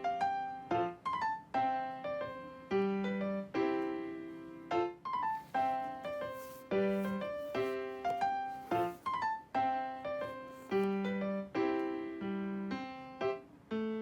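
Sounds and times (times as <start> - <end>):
light piano tune: 0.0 - 14.0.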